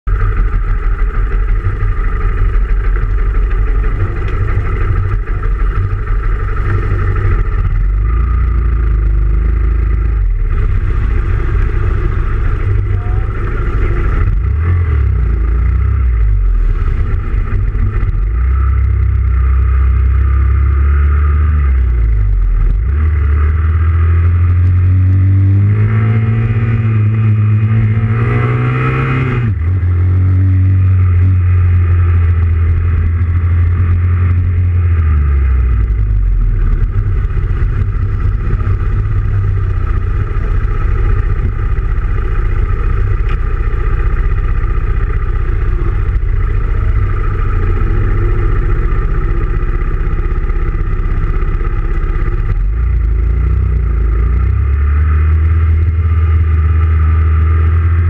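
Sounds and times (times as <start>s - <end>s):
group of motorcycles: 0.0s - 58.0s
motorcycle engine revving: 0.0s - 58.0s.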